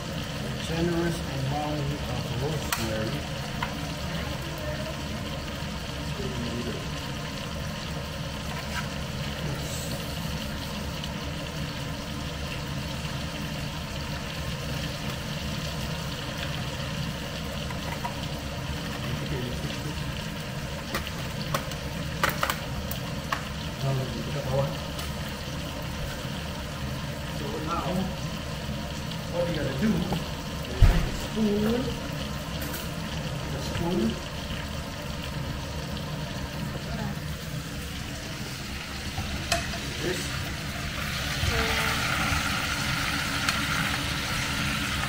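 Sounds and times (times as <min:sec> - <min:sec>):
steady mechanical hum: 0:00.0 - 0:45.0
steak sizzling in frying pans: 0:00.0 - 0:45.0.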